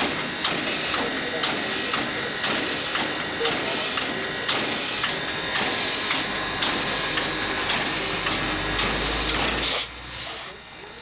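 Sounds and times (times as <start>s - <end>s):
steam locomotive exhaust chuffing: 0.0s - 11.0s.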